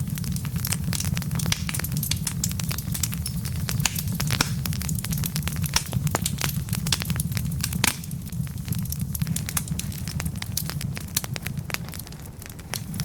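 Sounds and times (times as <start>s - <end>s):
fire low rumble: 0.0s - 13.0s
logs crackling and popping: 0.0s - 13.0s.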